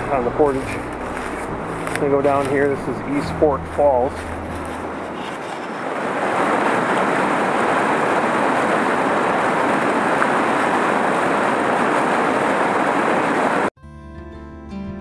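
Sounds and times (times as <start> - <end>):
water rushing over rocks: 0.0 - 13.7.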